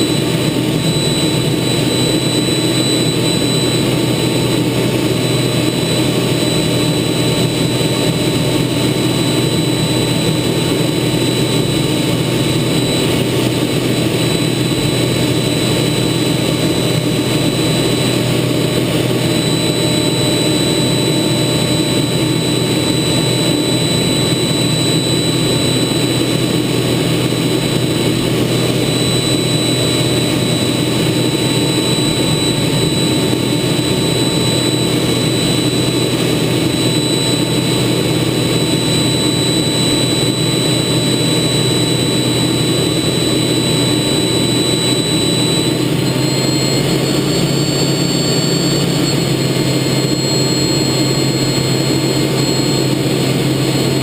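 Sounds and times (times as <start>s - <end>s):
high-pitched whines: 0.0s - 54.0s
jet engine cockpit drone: 0.0s - 54.0s.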